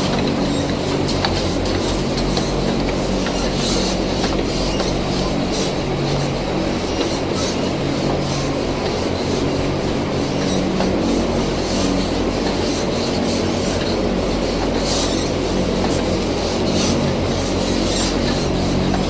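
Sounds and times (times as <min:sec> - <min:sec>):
machine rumble and hum: 0:00.0 - 0:19.0.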